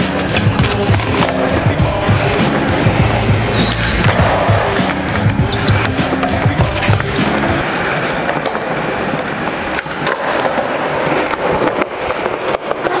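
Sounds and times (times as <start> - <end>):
skateboard clicks and knocks: 0.0 - 13.0
skateboard wheels rolling on concrete: 0.0 - 13.0.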